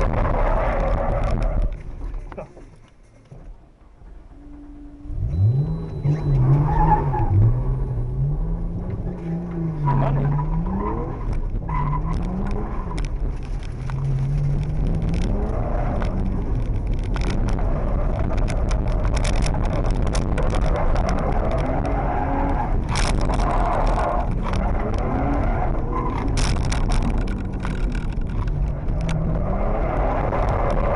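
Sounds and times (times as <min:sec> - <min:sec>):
tyre and road noise: 0:00.0 - 0:30.9
car engine revving: 0:04.3 - 0:30.9.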